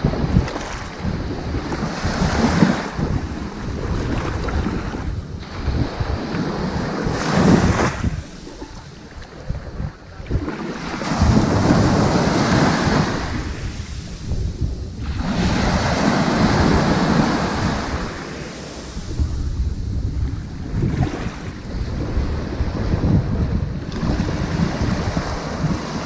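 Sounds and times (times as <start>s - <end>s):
waves washing onto beach: 0.0s - 26.0s.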